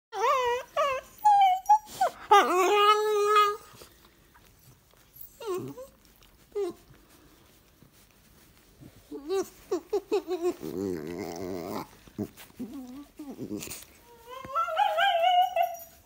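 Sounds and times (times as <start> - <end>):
dog whining and yowling: 0.1 - 7.0, 9.0 - 16.0.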